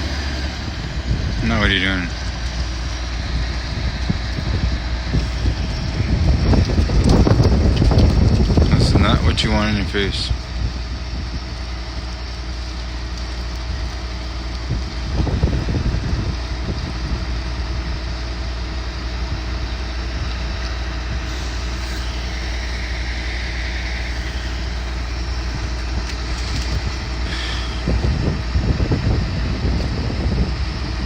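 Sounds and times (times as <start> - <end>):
diesel engine running: 0.0 - 31.0
low rumbles: 0.0 - 31.0.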